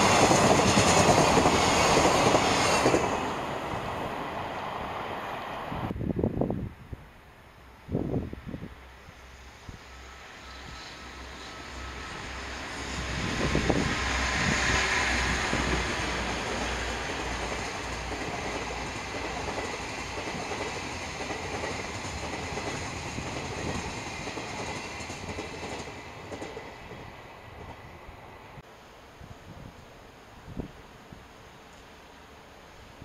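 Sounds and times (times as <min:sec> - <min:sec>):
electric locomotive passing: 0:00.0 - 0:06.0, 0:07.6 - 0:28.6
train wheel and rail noise: 0:00.0 - 0:33.0.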